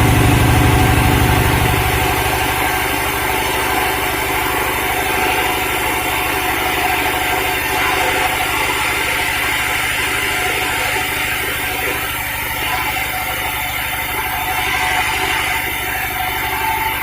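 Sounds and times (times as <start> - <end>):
engine firing pulse: 0.0 - 17.0
high-pitched machinery noise: 0.0 - 17.0.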